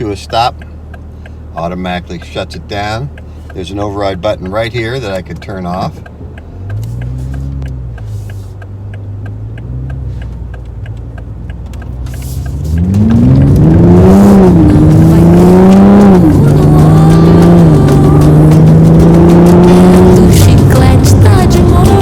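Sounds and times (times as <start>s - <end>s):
car engine revving: 0.0s - 22.0s
engine ticking: 0.0s - 22.0s.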